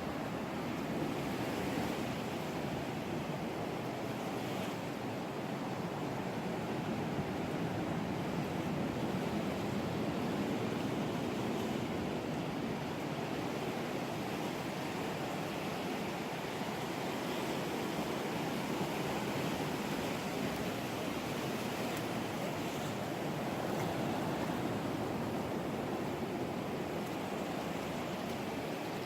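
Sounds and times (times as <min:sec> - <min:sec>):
ocean surf on a beach: 0:00.0 - 0:29.0.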